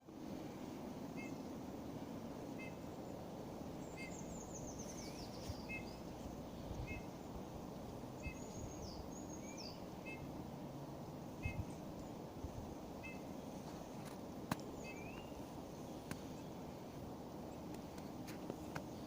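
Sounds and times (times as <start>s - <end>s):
low background noise: 0.0s - 19.0s.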